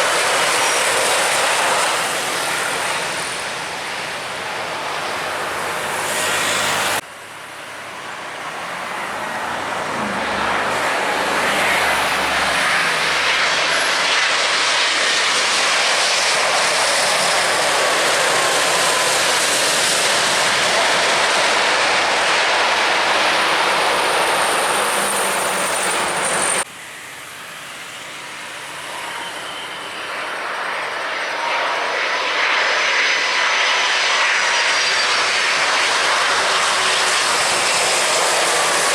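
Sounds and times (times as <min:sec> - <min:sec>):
jet airliner engines: 0:00.0 - 0:38.9.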